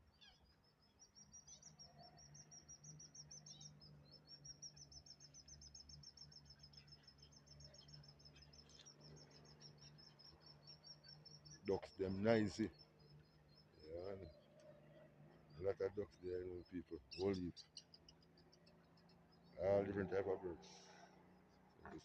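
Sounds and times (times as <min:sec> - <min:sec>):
small birds chirping rapidly: 0:00.0 - 0:22.0.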